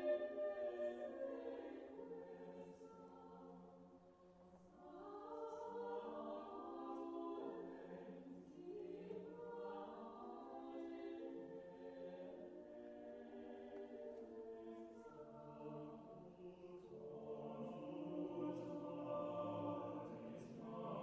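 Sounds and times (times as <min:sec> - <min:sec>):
wordless choral voices: 0:00.0 - 0:21.0.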